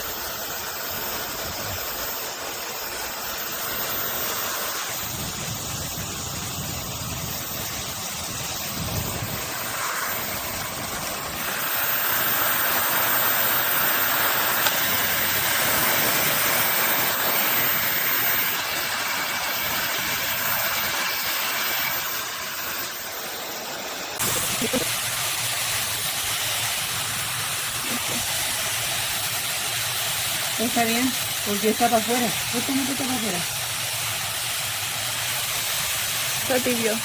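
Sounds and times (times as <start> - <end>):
hair dryer blowing air: 0.0 - 37.0.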